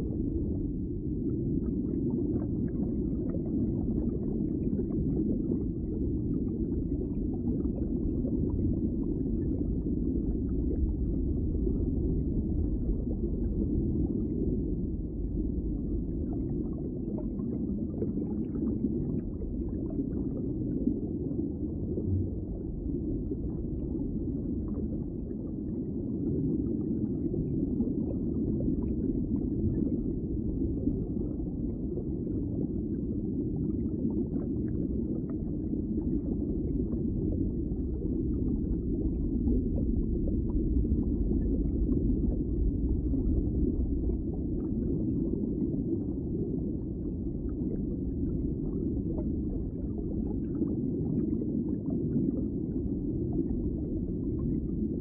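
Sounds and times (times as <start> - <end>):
muffled running water: 0.0 - 55.0.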